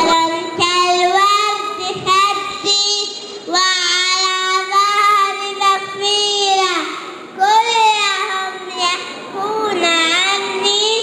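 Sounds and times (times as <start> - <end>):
girl singing into microphone: 0.0 - 11.0.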